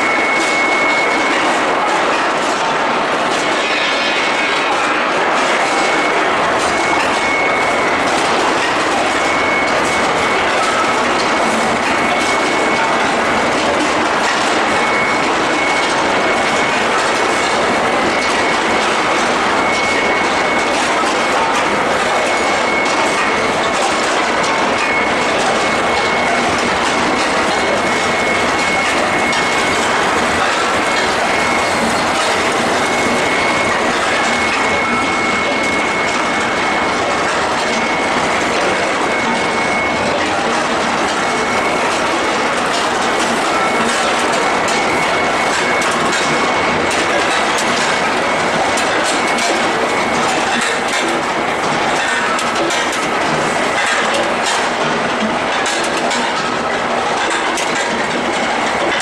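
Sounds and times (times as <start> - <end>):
forging production line running: 0.0 - 59.0
loud steady machinery din: 0.0 - 59.0.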